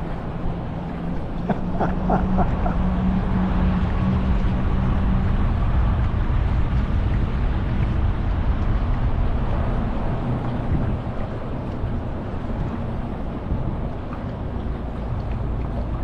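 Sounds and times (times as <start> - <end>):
motorboat engine running: 0.0 - 16.0
wind buffeting microphone: 0.0 - 16.0.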